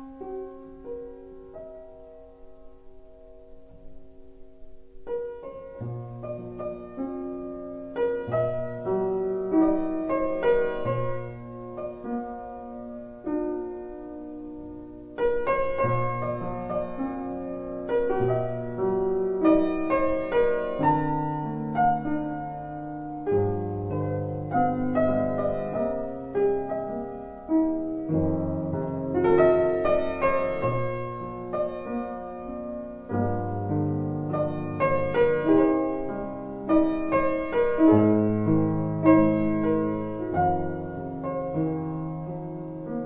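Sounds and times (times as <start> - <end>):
piano music: 0.0 - 43.0.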